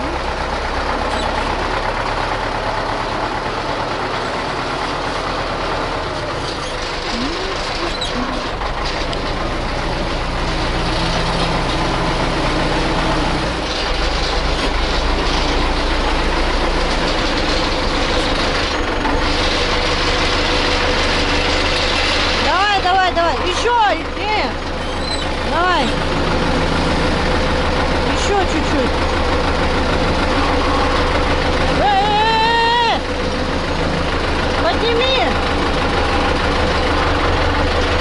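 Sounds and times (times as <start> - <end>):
diesel tractor engine running: 0.0 - 38.0.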